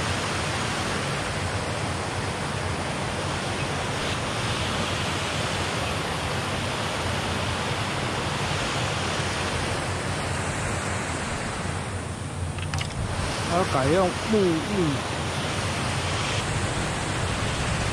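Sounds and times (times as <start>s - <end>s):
water rushing over a weir: 0.0s - 17.9s.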